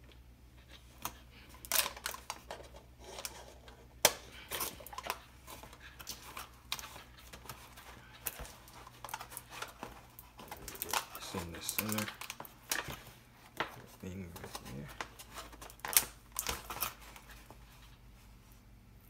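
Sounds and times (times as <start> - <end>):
rubber bands rubbing and rustling: 0.6 - 18.4.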